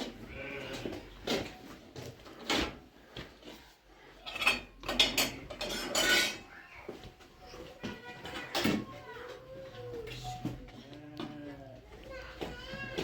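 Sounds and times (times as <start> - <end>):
dishes and utensils clattering: 0.0 - 11.4.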